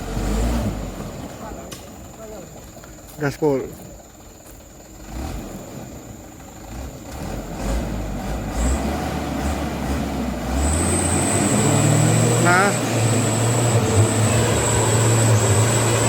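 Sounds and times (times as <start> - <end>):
truck diesel engine at full throttle: 0.0 - 16.0.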